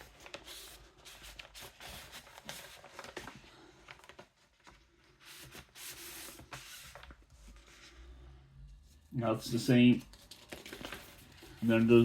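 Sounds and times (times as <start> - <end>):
paper record sleeves rustling: 0.0 - 12.0.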